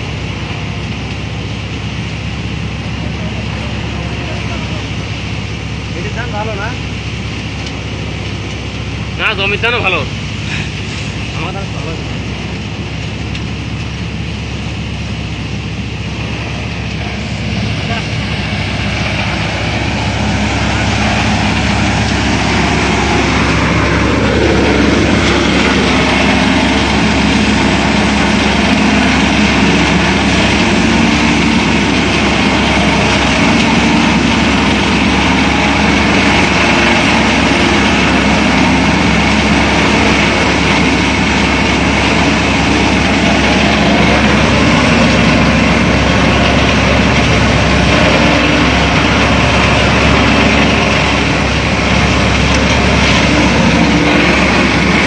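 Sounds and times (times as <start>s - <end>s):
thresher machine running: 0.0s - 55.0s.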